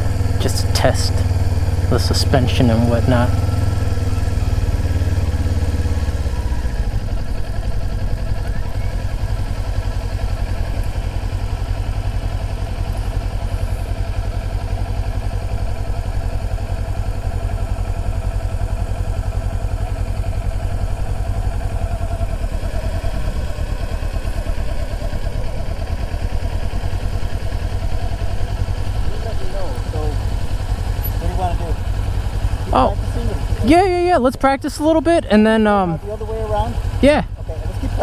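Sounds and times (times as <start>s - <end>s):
motorbike engine running: 0.0s - 38.0s.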